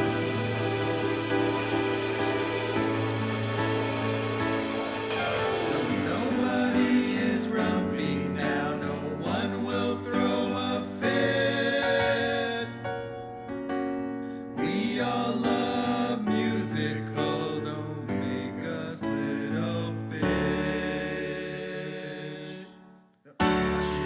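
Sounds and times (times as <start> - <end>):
wordless choir-like singing: 0.0 - 13.1, 14.5 - 22.9
piano: 0.0 - 24.0.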